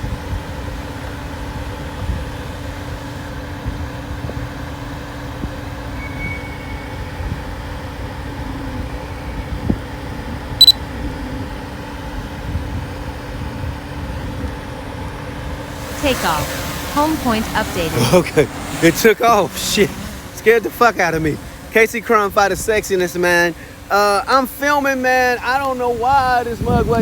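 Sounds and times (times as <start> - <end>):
constant hum: 0.0 - 27.0.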